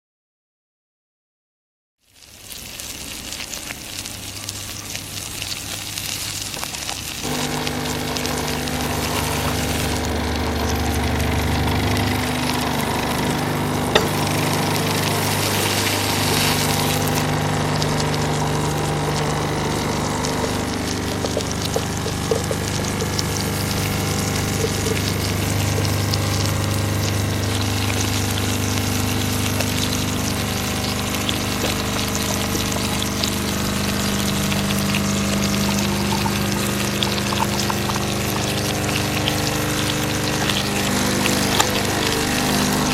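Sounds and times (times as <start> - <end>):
fish frying in hot oil: 2.0 - 42.9
low hum: 7.2 - 42.9.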